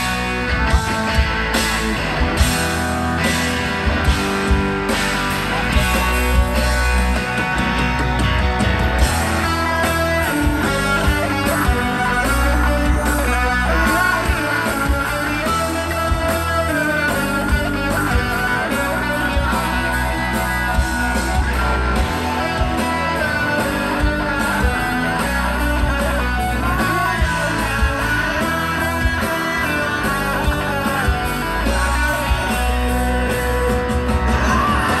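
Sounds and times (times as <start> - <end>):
live rock band: 0.0 - 35.0.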